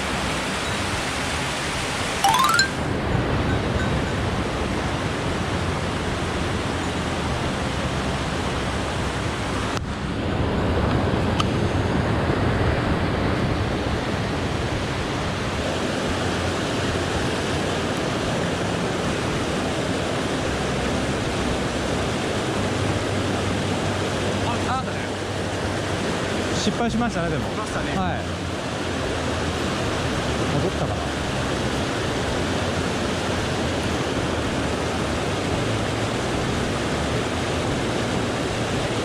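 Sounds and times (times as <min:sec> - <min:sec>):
rushing stream and waterfall: 0:00.0 - 0:39.0.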